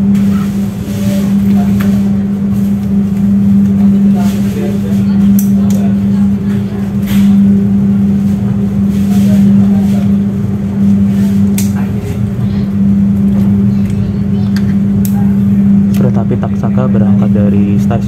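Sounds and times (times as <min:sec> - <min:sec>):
train carriage hum and rumble: 0:00.0 - 0:18.0.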